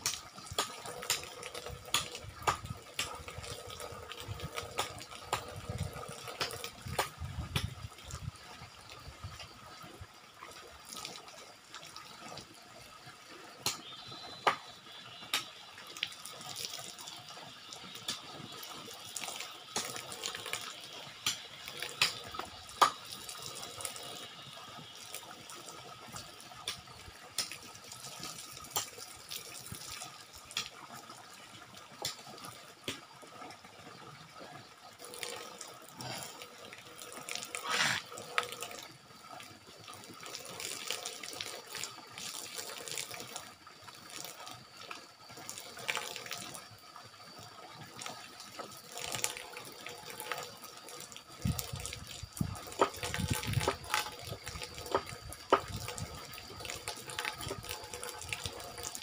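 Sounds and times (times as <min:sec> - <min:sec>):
water falling from spout: 0:00.0 - 0:59.0.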